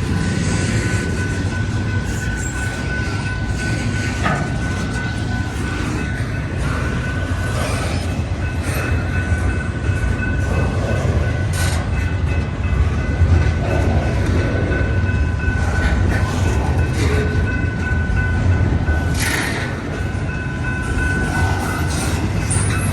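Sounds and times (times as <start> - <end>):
train rumbling past: 0.0 - 22.9
wheels clacking over rail joints: 0.0 - 22.9.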